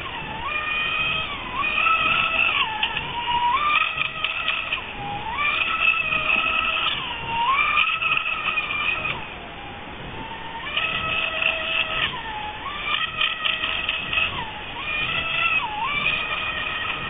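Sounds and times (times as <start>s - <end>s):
model boat motor whining: 0.0s - 17.0s.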